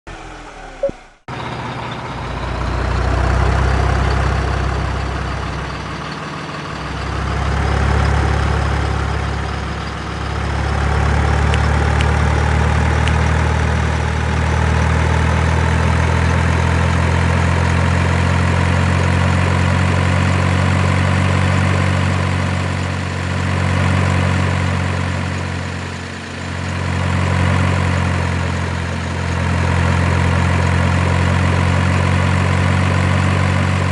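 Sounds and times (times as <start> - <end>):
heavy diesel engine running: 0.1 - 33.9.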